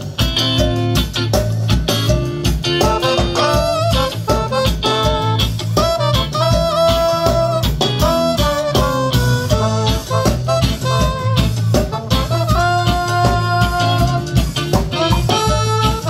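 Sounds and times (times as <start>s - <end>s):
live reggae band playing: 0.0s - 16.0s.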